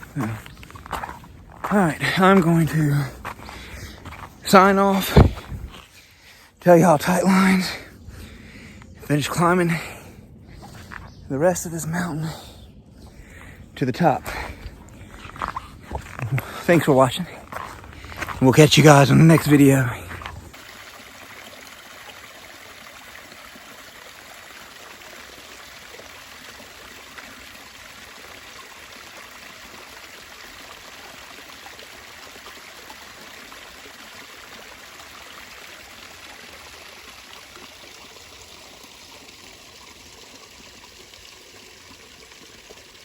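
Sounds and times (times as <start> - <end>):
creek water running: 0.0 - 43.0.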